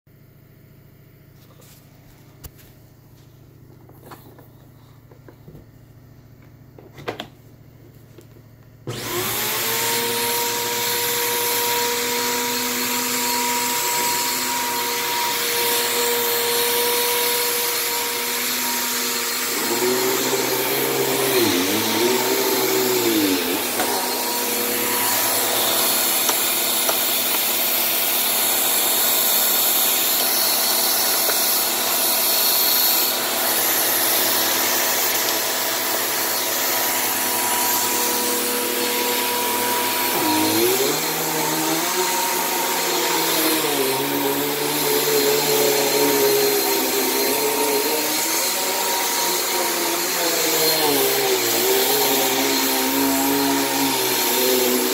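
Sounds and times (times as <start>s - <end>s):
vacuum cleaner motor whine: 0.2s - 54.9s.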